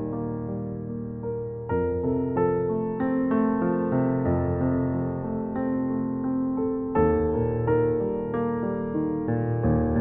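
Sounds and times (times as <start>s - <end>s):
soft keyboard music: 0.0s - 10.0s.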